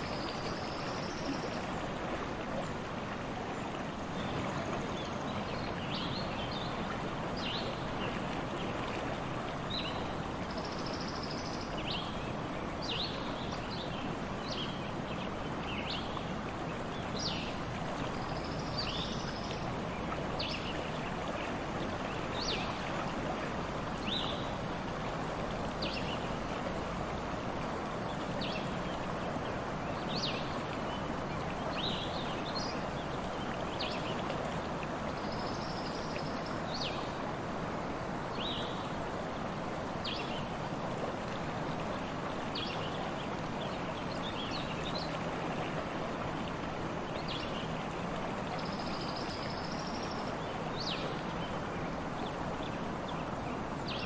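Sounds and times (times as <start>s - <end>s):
brook water running: 0.0s - 54.0s.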